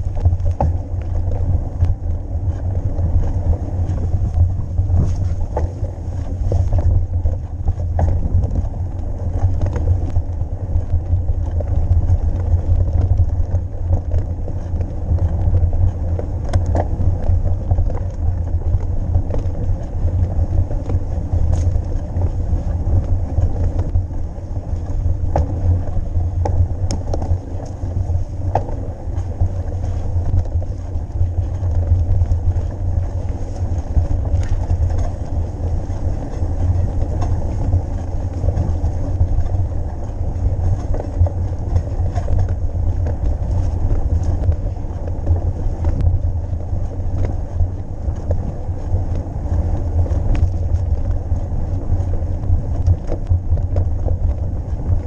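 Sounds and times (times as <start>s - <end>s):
bike clicks and rattles: 0.0s - 55.0s
wind buffeting microphone: 0.0s - 55.0s.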